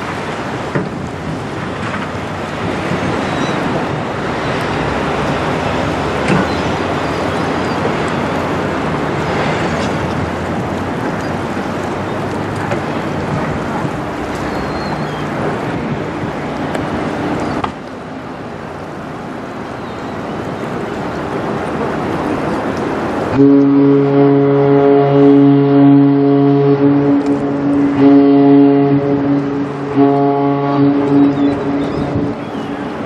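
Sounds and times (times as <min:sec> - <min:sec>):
wind on microphone: 0:00.0 - 0:17.9, 0:20.4 - 0:33.0
ship engine drone: 0:00.0 - 0:33.0.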